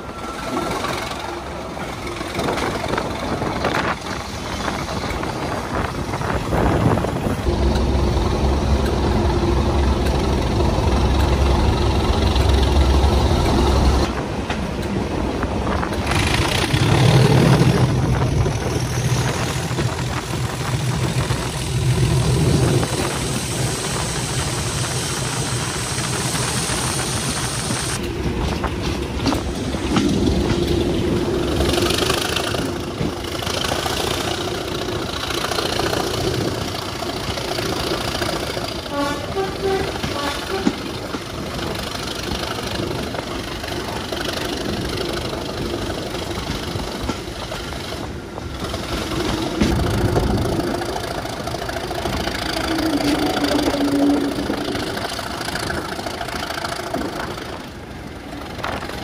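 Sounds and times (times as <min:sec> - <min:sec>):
diesel train engines idling: 0:00.0 - 0:59.0.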